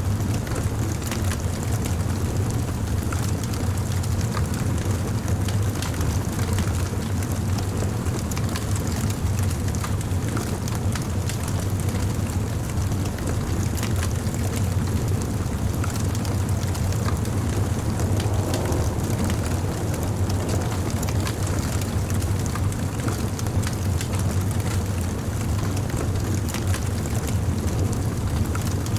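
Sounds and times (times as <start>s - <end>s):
campfire crackling and popping: 2.8s - 28.9s.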